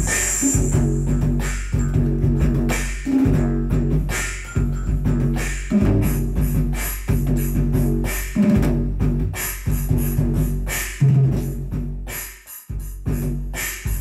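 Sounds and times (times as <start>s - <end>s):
electronic drum kit: 0.0s - 14.0s
music with bass line: 0.0s - 14.0s.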